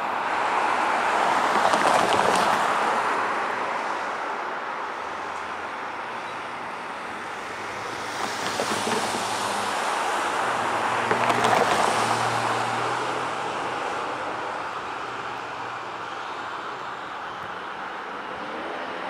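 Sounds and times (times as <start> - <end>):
passing vehicle rushing: 0.0 - 19.0.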